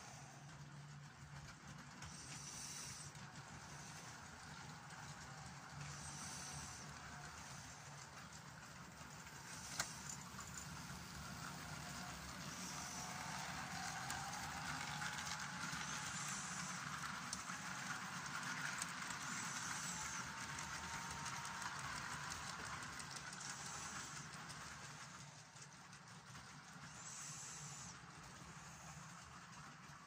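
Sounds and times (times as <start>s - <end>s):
model train wheels rumbling on track: 0.0s - 30.0s
thin motor whine: 2.0s - 25.2s, 26.7s - 29.7s.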